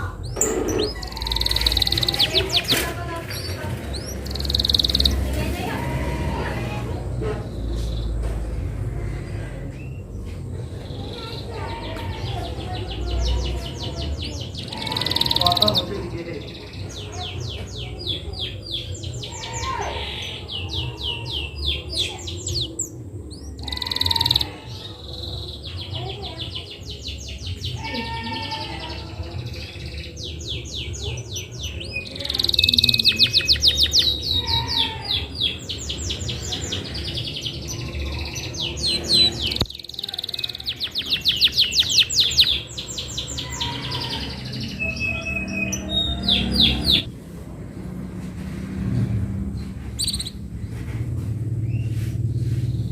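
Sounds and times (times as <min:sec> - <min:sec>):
canary singing trills: 0:00.0 - 0:08.2, 0:10.7 - 0:47.1, 0:49.8 - 0:50.8.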